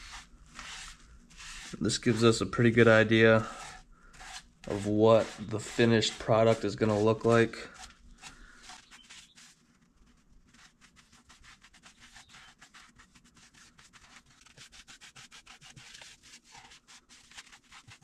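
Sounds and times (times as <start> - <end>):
paper towel rubbing on wood: 0.0 - 18.0.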